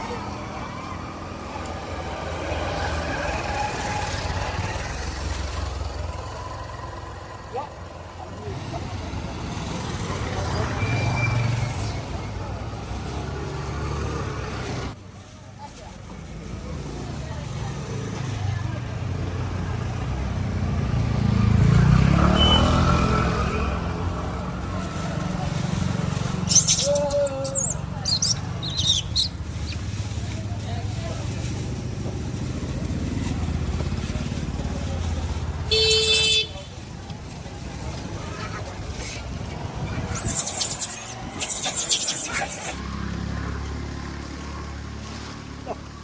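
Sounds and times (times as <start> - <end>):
vehicle engine rumble: 0.0 - 46.0.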